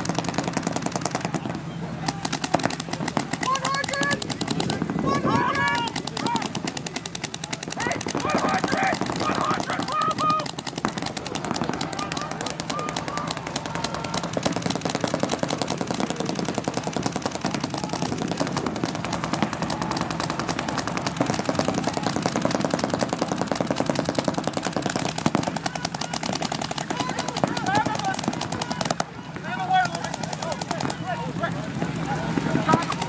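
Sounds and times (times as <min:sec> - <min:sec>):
paintball markers firing rapidly: 0:00.0 - 0:29.1, 0:29.7 - 0:31.1, 0:32.7 - 0:33.0.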